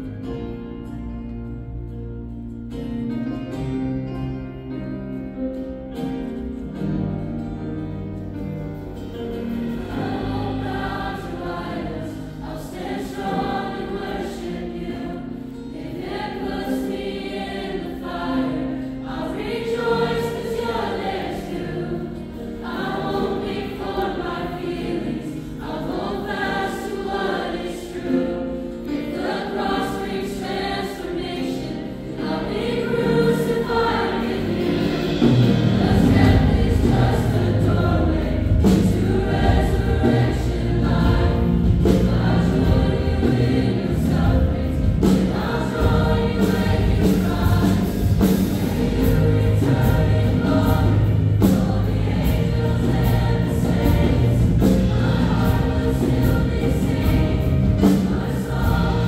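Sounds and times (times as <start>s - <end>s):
choir singing worship song: 8.0s - 59.0s.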